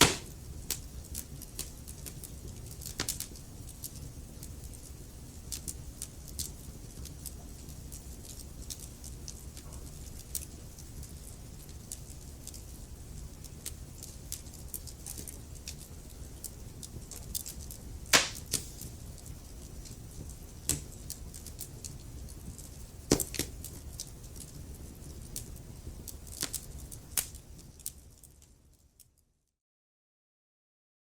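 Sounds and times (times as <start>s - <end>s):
wood fire crackling: 0.0s - 29.2s.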